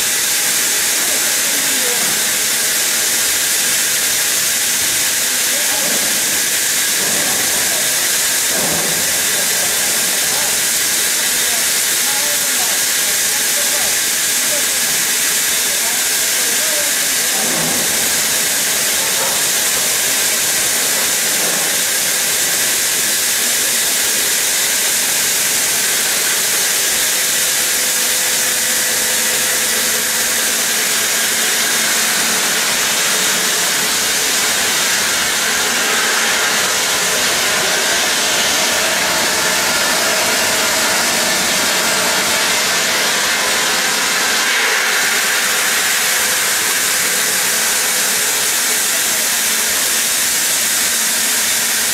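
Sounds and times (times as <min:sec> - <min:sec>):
stone saw cutting under water spray: 0:00.0 - 0:51.9.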